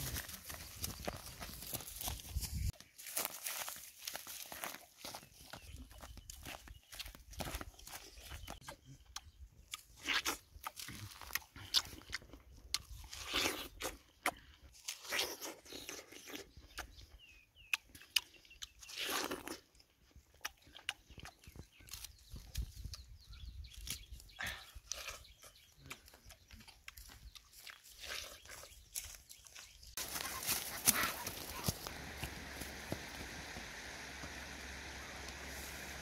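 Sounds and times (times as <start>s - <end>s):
man chewing watermelon: 4.0s - 36.0s.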